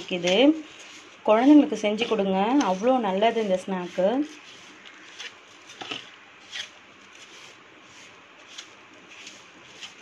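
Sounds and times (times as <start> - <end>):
spatula scraping steel bowl: 0.0 - 10.0.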